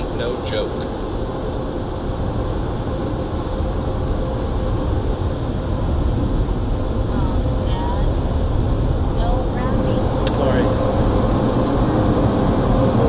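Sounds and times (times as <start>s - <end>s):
car wash dryer blowers rushing: 0.0s - 13.0s.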